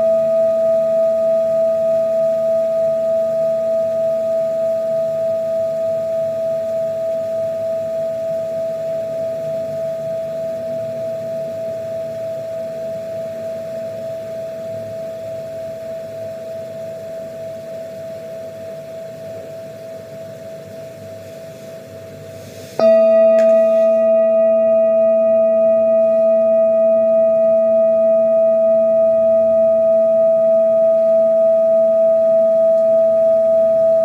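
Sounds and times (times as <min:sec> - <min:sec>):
metal singing bowl ringing: 0:00.0 - 0:34.0.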